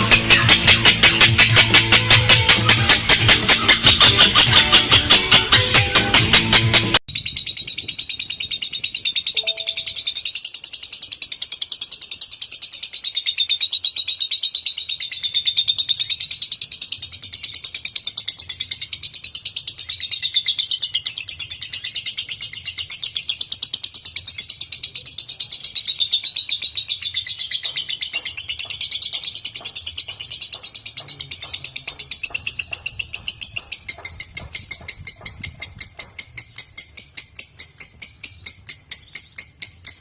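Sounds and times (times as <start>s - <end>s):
lovebird chattering rapidly: 7.1s - 40.0s.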